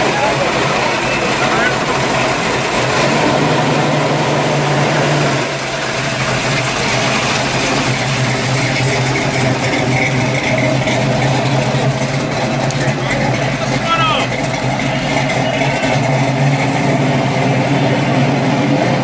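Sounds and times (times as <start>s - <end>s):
car engine running low: 0.0s - 19.0s.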